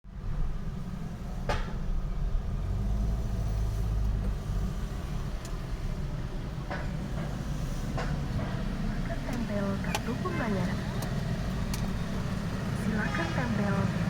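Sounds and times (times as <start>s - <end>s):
car engine idling: 0.1s - 14.0s.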